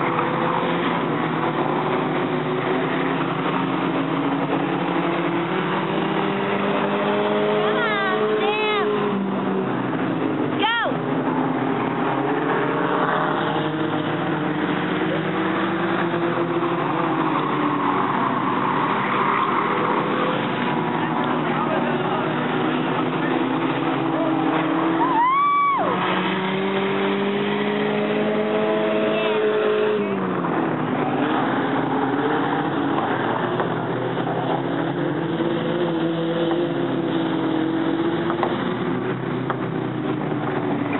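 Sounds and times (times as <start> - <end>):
race car engines racing: 0.0 - 40.9.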